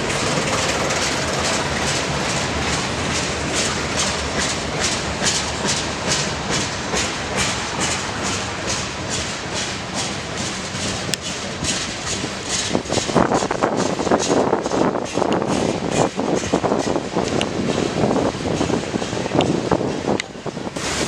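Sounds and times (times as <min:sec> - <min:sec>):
train wheels clacking over rails: 0:00.0 - 0:21.0.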